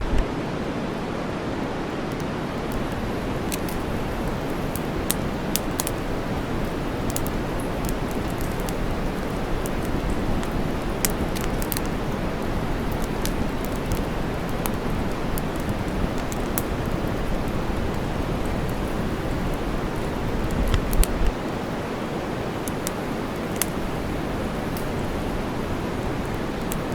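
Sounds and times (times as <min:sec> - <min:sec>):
low white noise: 0:00.0 - 0:26.9
campfire crackling: 0:01.7 - 0:26.9.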